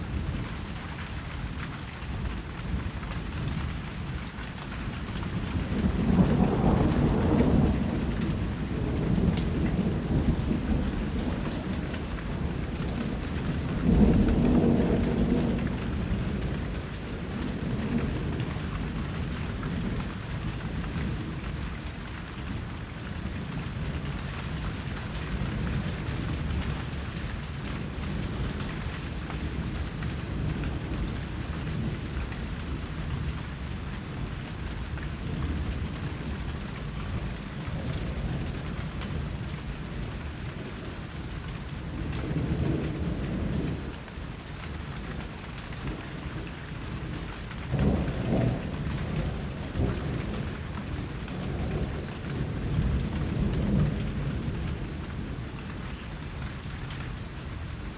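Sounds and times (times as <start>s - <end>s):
steady rain: 0.0s - 57.9s
thunder rumbling: 2.2s - 57.8s.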